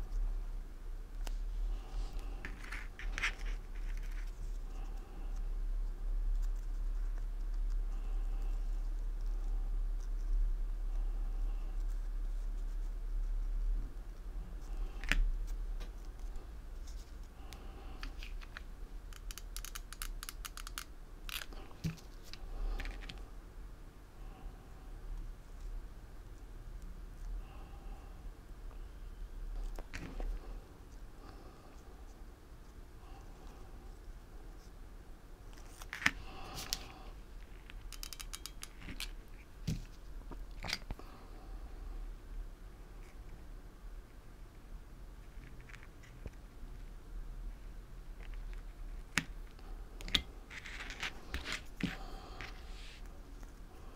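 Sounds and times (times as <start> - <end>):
low steady hum: 0.0 - 53.9.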